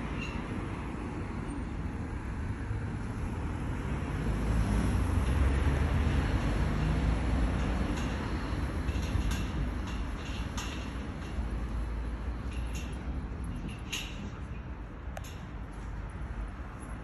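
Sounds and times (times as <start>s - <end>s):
low outdoor rumble: 2.0s - 17.0s.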